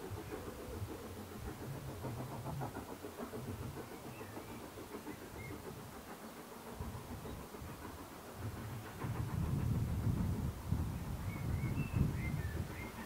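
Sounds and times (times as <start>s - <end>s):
distant steam locomotive chuffing: 0.0s - 13.0s.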